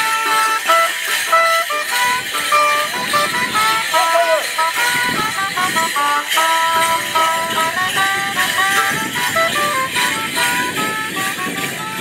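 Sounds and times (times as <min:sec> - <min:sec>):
live folk dance tune: 0:00.0 - 0:12.0.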